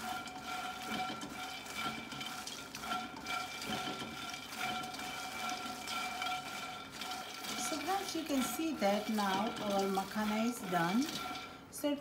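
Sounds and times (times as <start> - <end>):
spatula stirring seeds in wok: 0.0 - 12.0.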